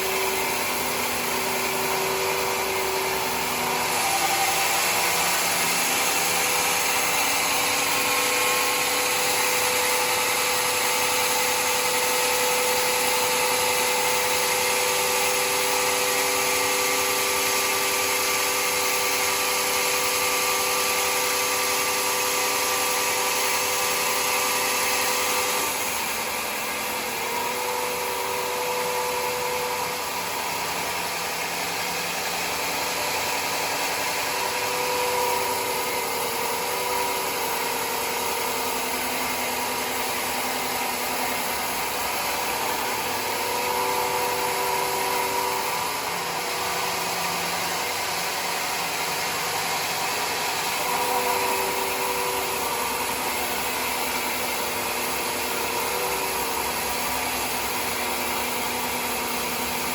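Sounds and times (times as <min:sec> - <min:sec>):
sawmill running: 0:00.0 - 0:59.9.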